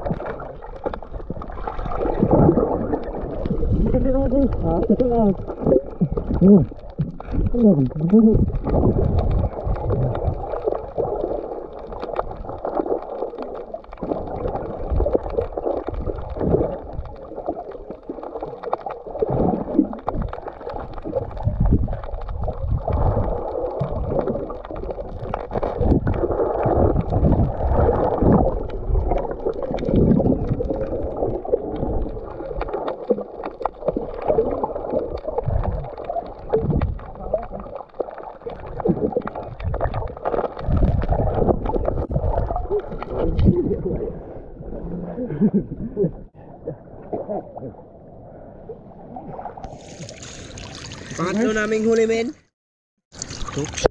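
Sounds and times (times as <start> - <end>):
low underwater thumps and rumbles: 0.0 - 47.7
muffled water sloshing and gurgling: 0.0 - 52.5, 53.1 - 53.9.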